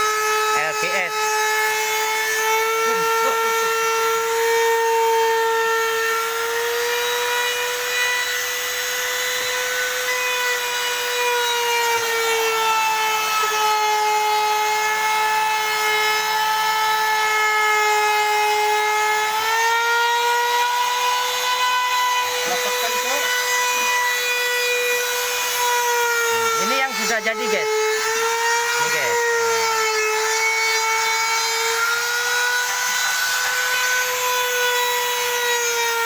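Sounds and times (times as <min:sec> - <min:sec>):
high-speed power tool whining: 0:00.0 - 0:36.0.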